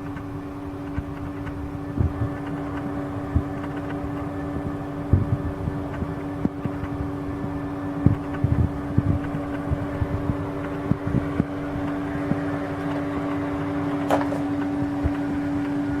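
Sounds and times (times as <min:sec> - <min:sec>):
electric fan motor humming: 0:00.0 - 0:16.0.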